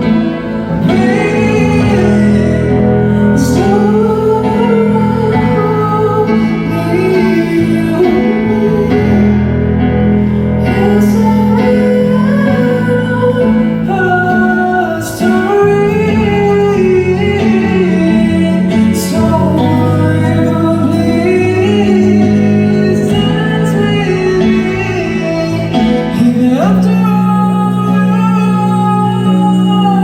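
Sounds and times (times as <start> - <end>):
guitar: 0.0 - 30.0
live band playing slow song: 0.0 - 30.0.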